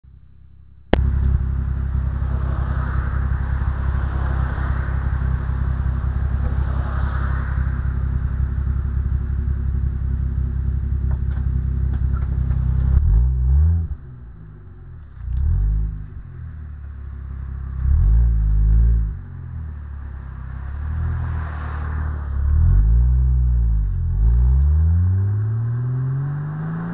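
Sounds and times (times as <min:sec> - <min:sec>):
car engine idling: 0:00.0 - 0:24.7
engine revving in throttle blips: 0:00.9 - 0:26.9.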